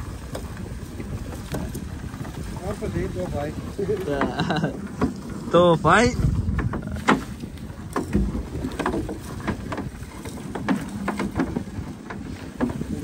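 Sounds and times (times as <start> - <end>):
boat engine low rumble: 0.0 - 13.0
water slapping against hull: 0.0 - 13.0.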